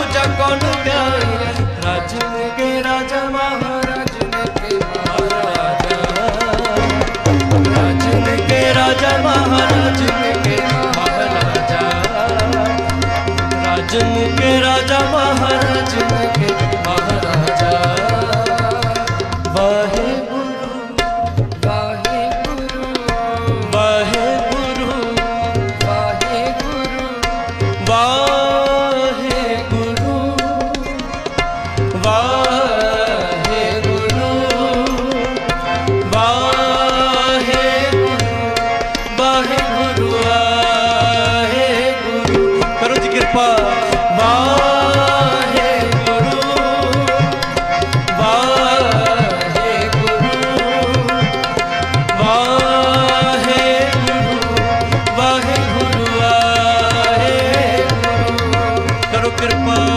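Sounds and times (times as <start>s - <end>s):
tabla rhythm: 0.0s - 59.9s.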